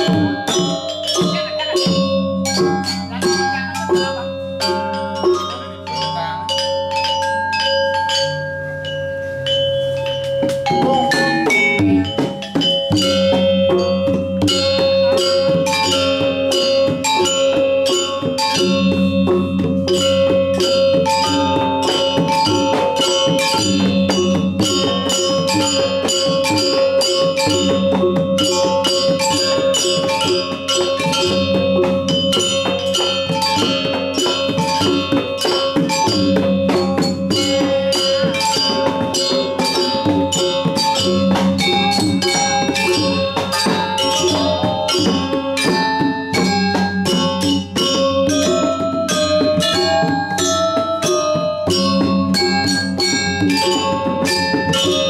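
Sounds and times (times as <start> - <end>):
hand drums: 0.0 - 55.0
metallophones struck with mallets: 0.0 - 55.0.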